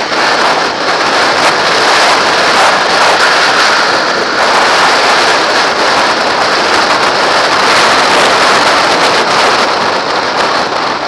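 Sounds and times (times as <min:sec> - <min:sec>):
motorcycle engine: 0:00.0 - 0:11.0
wind rushing over helmet: 0:00.0 - 0:11.0.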